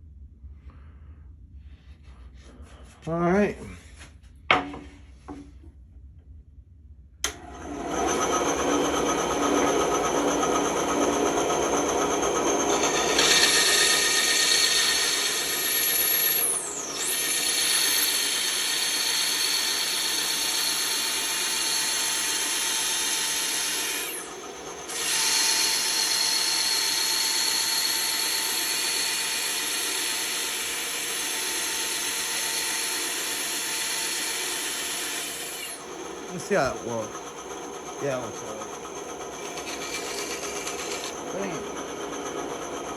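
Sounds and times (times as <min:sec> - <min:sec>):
bandsaw cutting wood: 0:07.2 - 0:42.9.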